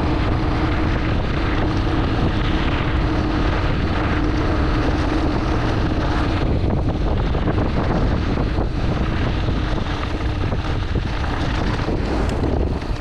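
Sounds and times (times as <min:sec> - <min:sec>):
bike tyres rattling on gravel: 0:00.0 - 0:13.0
wind buffeting microphone: 0:00.0 - 0:13.0.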